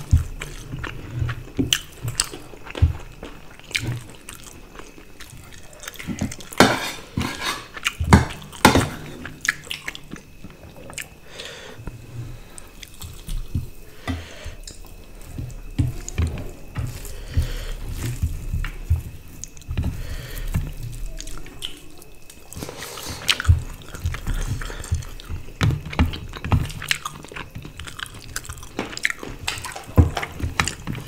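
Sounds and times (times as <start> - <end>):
chewing: 0.0 - 31.0
wet squelching of fingers mixing food: 0.0 - 31.0.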